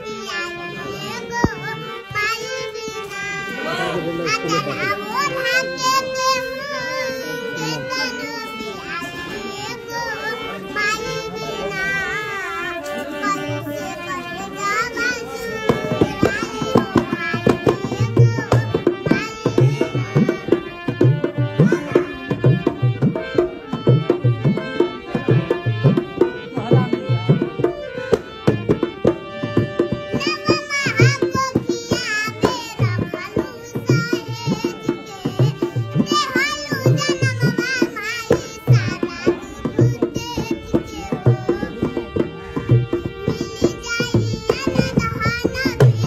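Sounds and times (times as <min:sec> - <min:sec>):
held instrumental tones: 0:00.0 - 0:46.0
tabla rhythm: 0:00.1 - 0:46.0.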